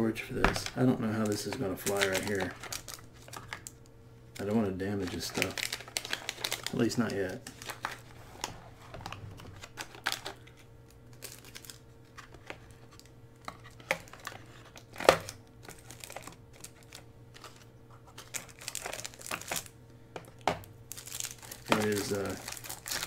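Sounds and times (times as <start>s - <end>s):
plastic bags crinkling: 0.4s - 3.8s, 4.4s - 19.8s, 20.9s - 23.0s.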